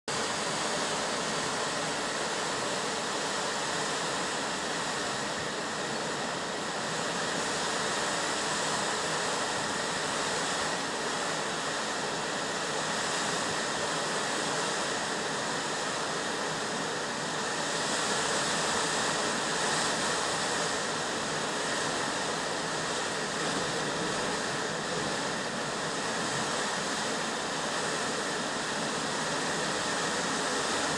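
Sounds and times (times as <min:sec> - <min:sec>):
strong blizzard wind: 0:00.1 - 0:30.9.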